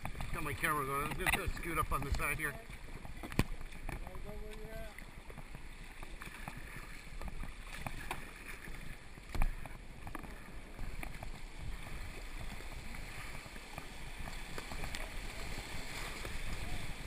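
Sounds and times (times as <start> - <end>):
paddle strokes splashing: 0.0 - 17.0
whitewater rushing and splashing: 0.0 - 17.0.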